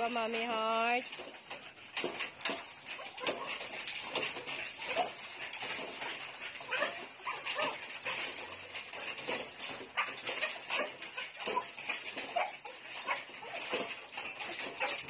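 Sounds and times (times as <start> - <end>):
dog whimpering and yipping: 2.9 - 15.0.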